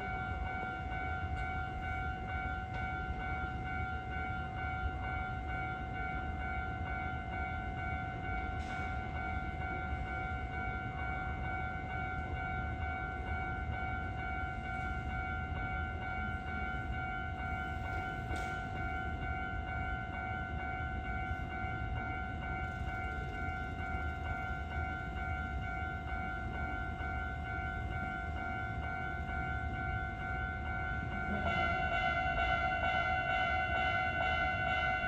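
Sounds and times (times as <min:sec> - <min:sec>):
level-crossing electronic bell ringing: 0:00.0 - 0:35.0
train rumbling: 0:00.0 - 0:35.0.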